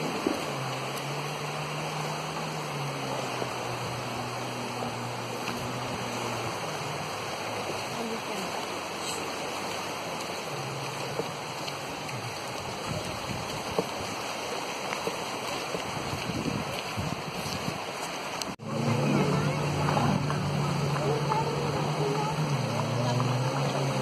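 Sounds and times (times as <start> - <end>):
faint boat motor hum: 0.0 - 24.0
waves washing onto beach: 0.0 - 24.0.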